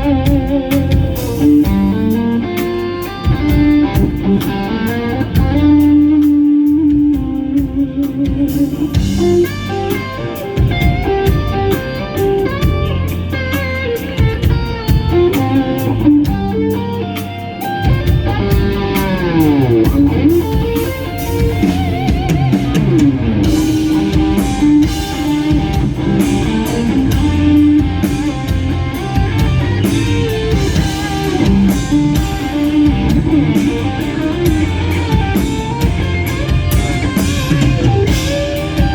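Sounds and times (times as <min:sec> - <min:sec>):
drum kit: 0:00.0 - 0:38.9
lead electric guitar: 0:00.0 - 0:38.9
rock band playing ballad: 0:00.0 - 0:38.9.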